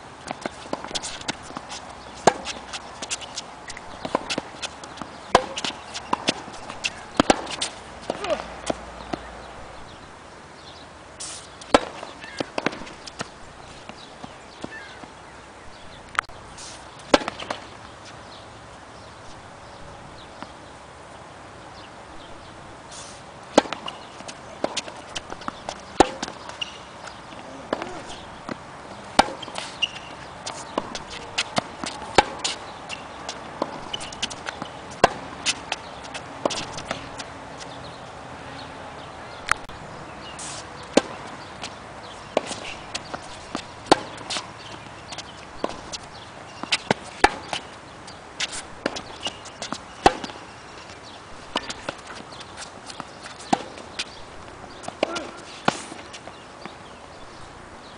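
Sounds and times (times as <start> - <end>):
tennis balls bouncing on hard court: 0.2 - 9.4, 11.6 - 15.2, 17.0 - 18.4, 23.5 - 37.9, 39.3 - 57.2
tennis balls struck by rackets: 0.2 - 9.8, 11.2 - 15.2, 16.1 - 18.4, 23.4 - 37.9, 39.3 - 57.9.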